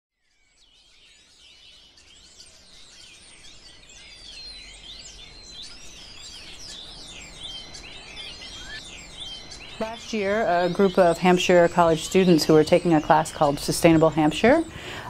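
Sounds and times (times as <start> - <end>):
birds chirping chorus: 0.2 - 15.0.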